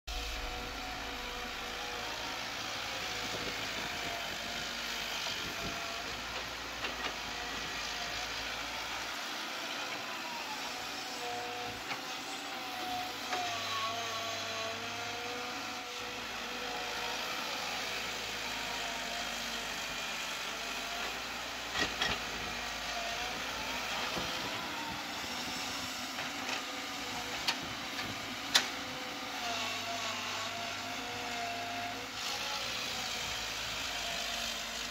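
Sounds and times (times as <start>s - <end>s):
excavator diesel engine running: 0.1s - 12.0s, 14.8s - 29.4s, 30.6s - 34.9s.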